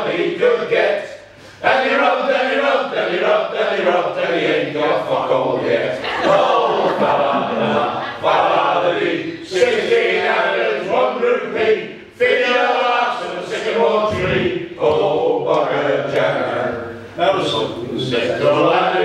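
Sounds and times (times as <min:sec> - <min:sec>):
men singing unaccompanied: 0:00.0 - 0:19.0.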